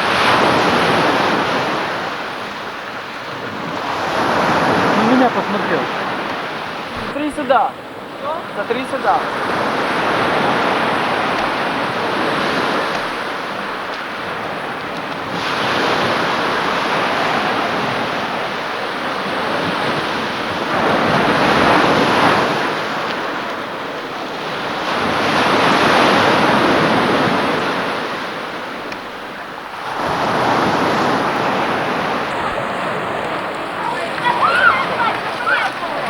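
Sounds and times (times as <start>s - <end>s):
sea waves washing: 0.0s - 36.0s
wind buffeting microphone: 0.0s - 36.0s.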